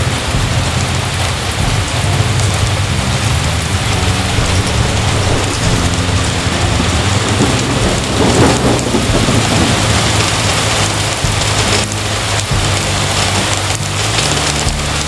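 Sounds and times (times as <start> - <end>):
heavy rain pouring: 0.0 - 15.0
thunder rumbling: 0.1 - 15.0.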